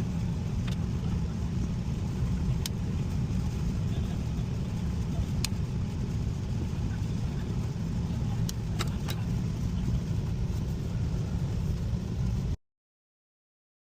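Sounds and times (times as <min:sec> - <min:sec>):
air handling unit blower rumble: 0:00.0 - 0:12.6.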